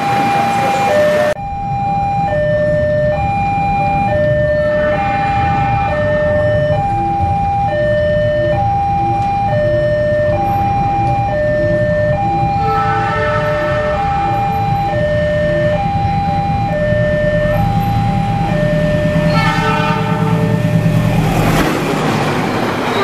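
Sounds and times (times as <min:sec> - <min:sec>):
two-tone crossing alarm: 0:00.0 - 0:21.7
train rumble: 0:00.0 - 0:23.0.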